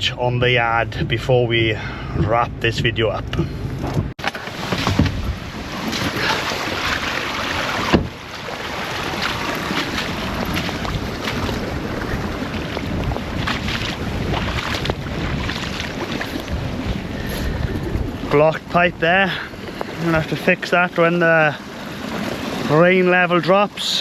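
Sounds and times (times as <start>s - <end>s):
wind buffeting microphone: 0.0s - 20.6s.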